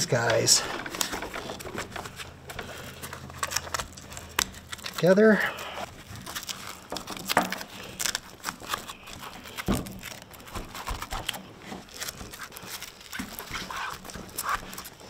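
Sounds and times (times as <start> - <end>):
velcro crackling: 0.0 - 15.0.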